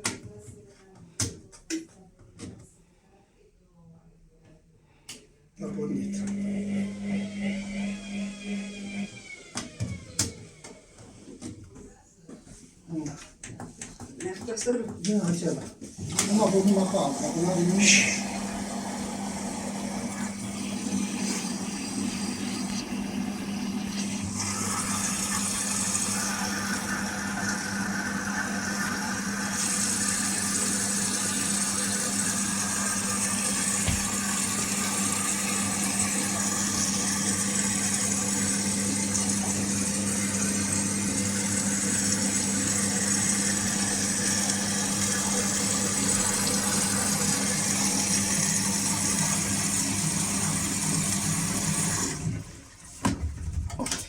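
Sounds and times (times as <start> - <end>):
washing machine running: 5.6 - 11.5, 14.4 - 54.0.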